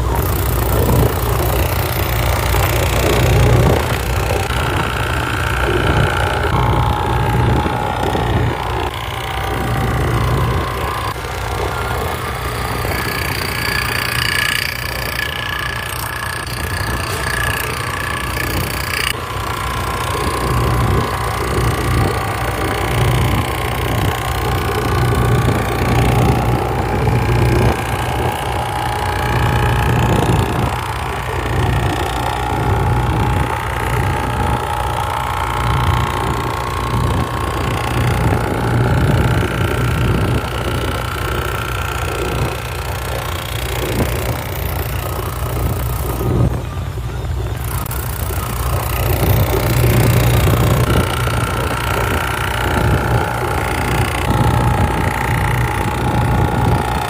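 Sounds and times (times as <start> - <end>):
high wavering whine: 0.0 - 57.0
machine humming: 0.0 - 57.0
tool grinding metal: 0.0 - 57.0.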